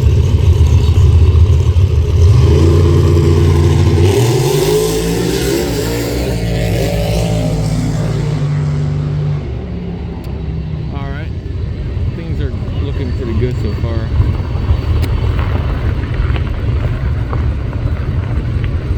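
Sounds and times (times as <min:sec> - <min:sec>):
engine revving: 0:00.0 - 0:16.5
steady low rumble: 0:00.0 - 0:18.9.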